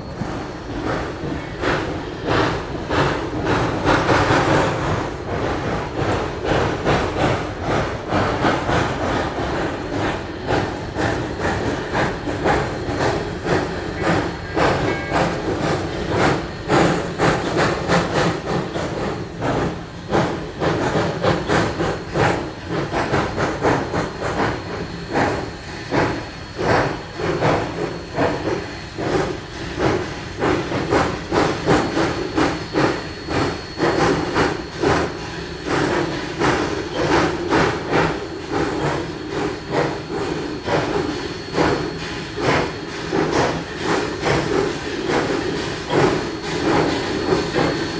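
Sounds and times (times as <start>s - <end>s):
steam hissing: 0.0s - 47.9s
steam locomotive chuffing: 0.0s - 47.9s.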